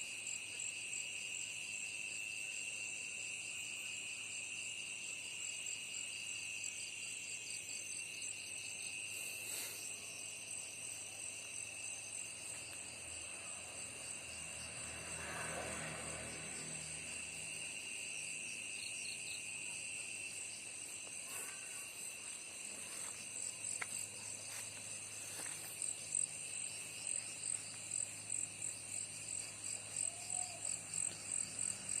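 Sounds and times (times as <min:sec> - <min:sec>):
insects chirring: 0:00.2 - 0:32.0.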